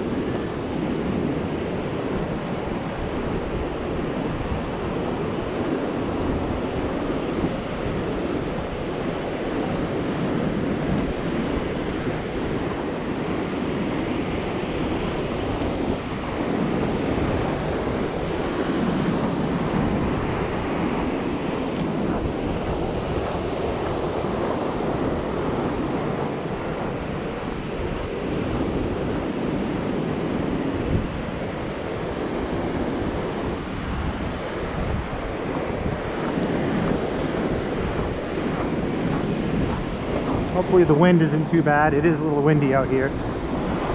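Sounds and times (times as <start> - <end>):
ocean surf washing onto beach: 0.0 - 43.9
wind noise on microphone: 0.0 - 43.9.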